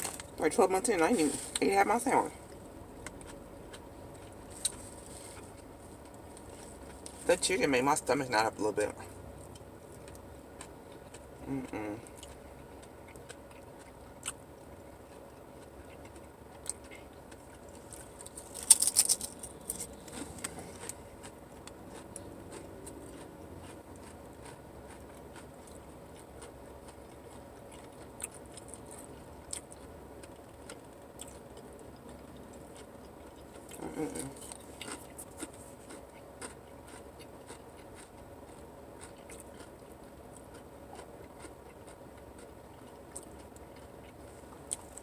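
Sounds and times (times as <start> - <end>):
chewing with crunches: 0.0 - 45.0.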